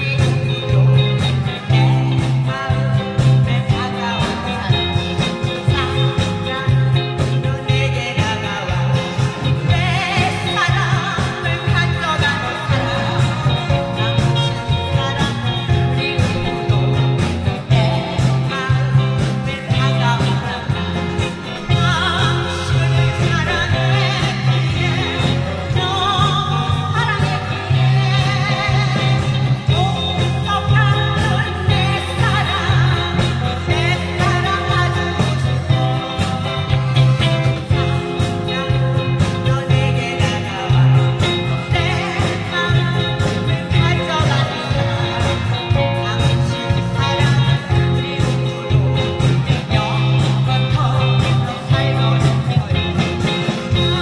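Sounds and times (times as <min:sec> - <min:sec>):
instrumental music with bass beat: 0:00.0 - 0:54.0
person singing: 0:00.0 - 0:54.0.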